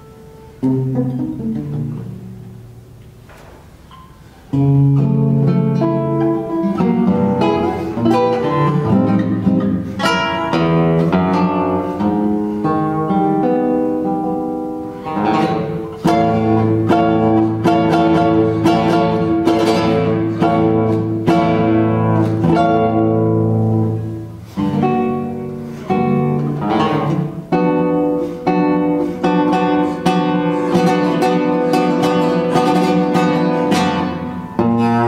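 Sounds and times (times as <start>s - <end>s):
classical guitar playing: 0.0s - 35.0s.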